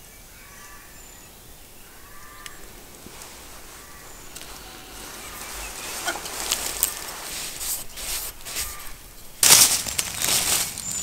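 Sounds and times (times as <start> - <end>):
faint bird chirps: 0.0 - 9.4
rustling and scraping handling: 1.6 - 11.0.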